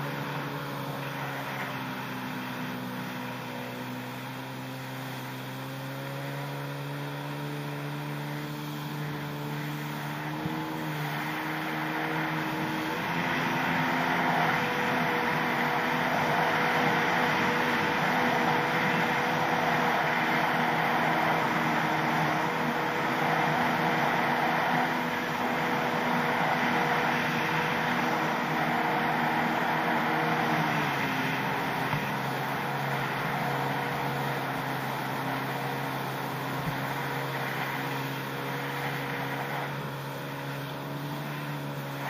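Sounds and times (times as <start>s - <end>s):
jet ski engine running: 0.0s - 42.0s.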